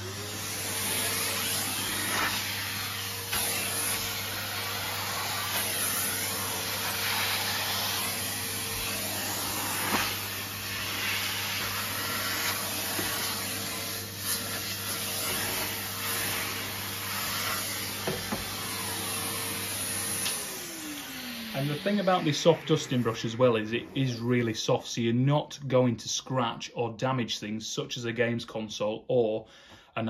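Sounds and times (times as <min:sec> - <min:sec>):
vacuum cleaner running: 0:00.0 - 0:24.5.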